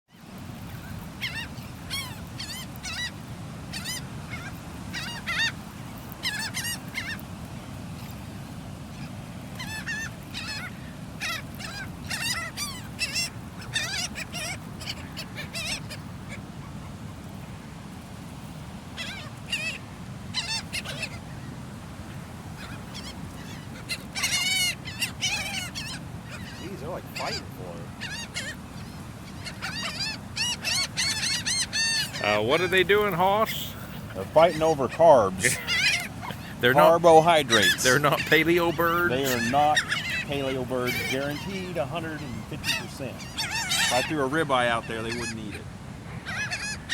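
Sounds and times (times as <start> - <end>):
seagulls squawking: 0.8 - 7.3, 8.9 - 17.6, 18.9 - 46.9.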